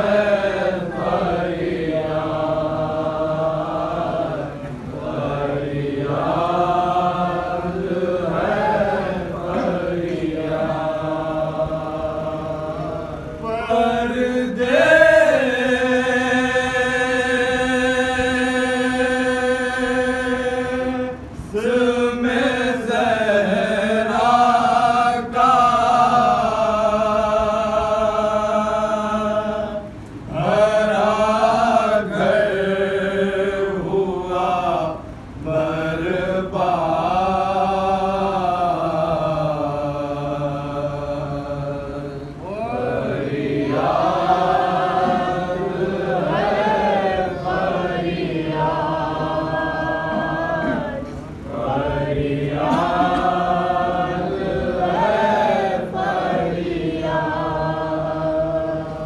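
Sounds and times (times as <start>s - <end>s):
men chanting a lament: 0.0s - 59.0s.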